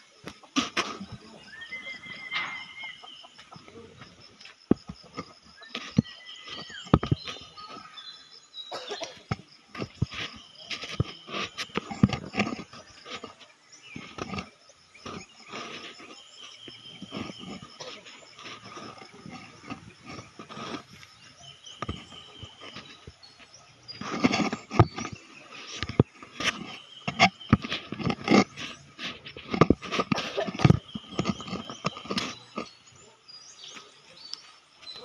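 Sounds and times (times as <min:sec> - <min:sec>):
birds calling: 0:00.0 - 0:35.0.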